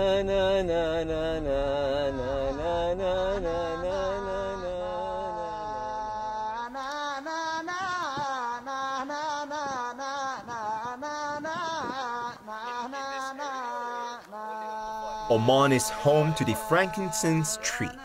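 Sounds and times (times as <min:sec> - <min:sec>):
man singing wordless melody: 0:00.0 - 0:18.0
steady low hum: 0:00.0 - 0:18.0.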